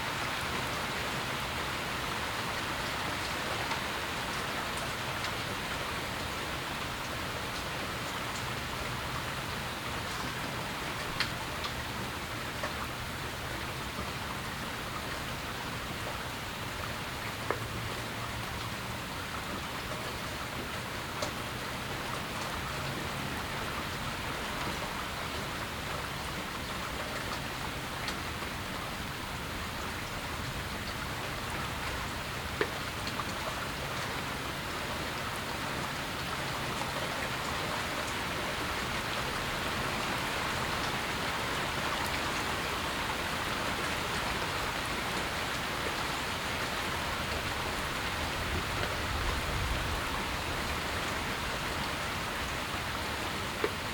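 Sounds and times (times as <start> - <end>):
rain pattering: 0.1 - 53.9.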